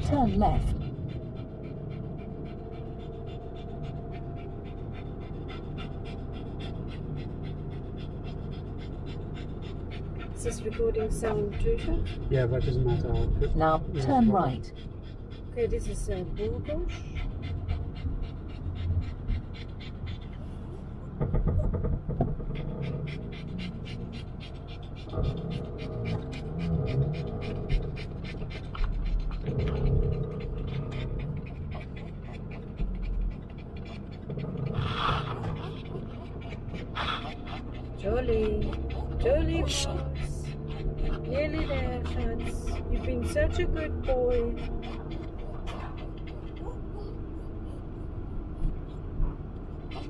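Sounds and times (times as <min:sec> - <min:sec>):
car rumbling on road: 0:00.0 - 0:50.0
dog panting quickly: 0:00.0 - 0:50.0.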